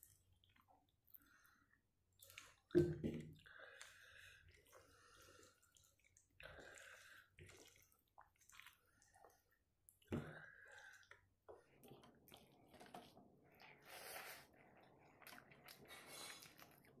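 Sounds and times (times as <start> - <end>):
soft wet squishes of food: 0.0 - 17.0.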